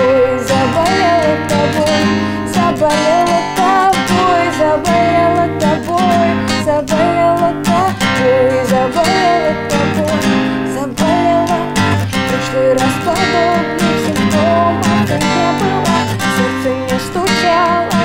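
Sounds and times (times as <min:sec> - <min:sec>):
acoustic guitar strumming: 0:00.0 - 0:18.0
woman singing: 0:00.0 - 0:18.0.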